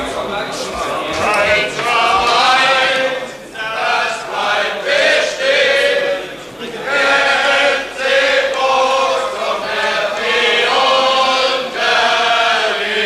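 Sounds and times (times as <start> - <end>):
group of people singing: 0.7 - 13.0.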